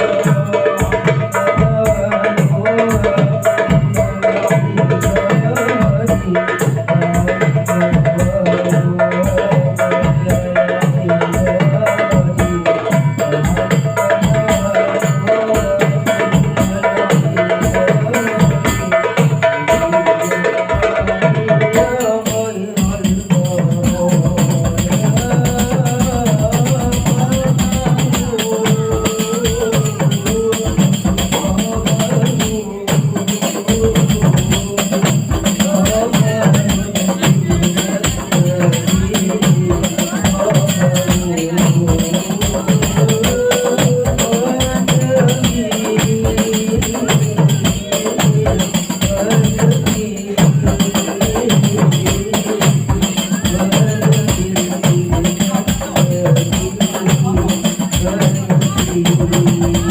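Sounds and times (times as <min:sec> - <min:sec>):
frame drums beating fast rhythm: 0:00.0 - 0:59.9
person singing melody: 0:00.0 - 0:59.9.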